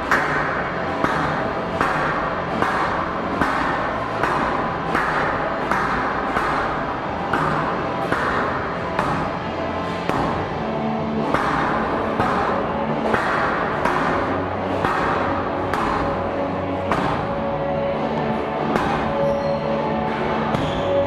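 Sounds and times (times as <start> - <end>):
squash ball knocks: 0.0 - 17.5, 18.6 - 19.3, 20.1 - 21.0.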